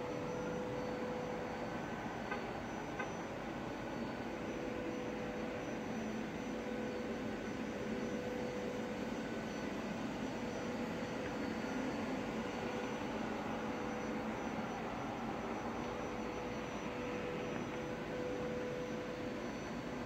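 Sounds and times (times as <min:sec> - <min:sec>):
faint constant hum: 0:00.0 - 0:20.0.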